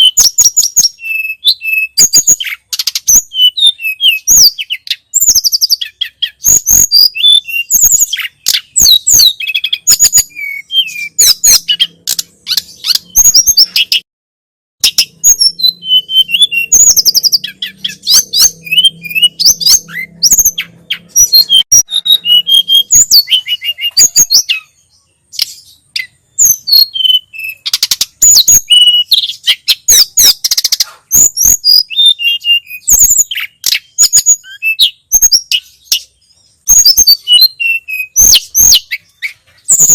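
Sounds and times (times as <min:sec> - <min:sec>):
bird singing high chirps: 0:00.0 - 0:14.1, 0:14.8 - 0:39.9.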